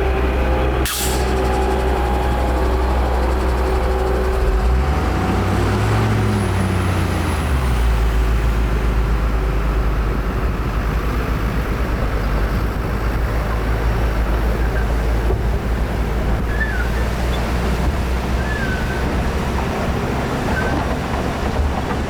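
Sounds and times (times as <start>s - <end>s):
diesel earthmoving machinery rumble: 0.0s - 22.0s.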